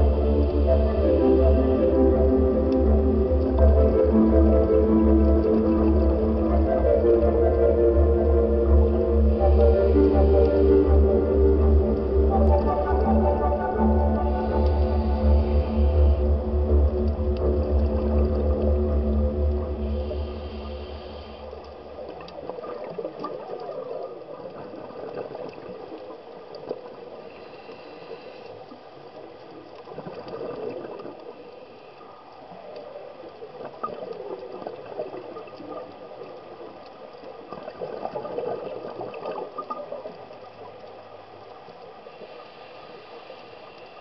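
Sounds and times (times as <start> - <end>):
underwater bubbling and gurgling: 0.0 - 44.0.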